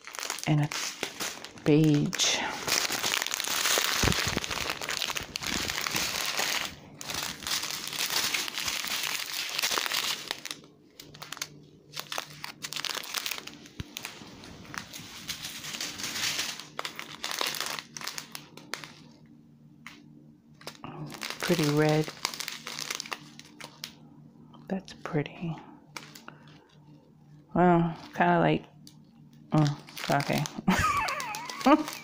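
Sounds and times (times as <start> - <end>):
plastic bags crinkling: 0.0 - 19.2, 20.6 - 24.0, 25.9 - 27.0, 29.6 - 32.0.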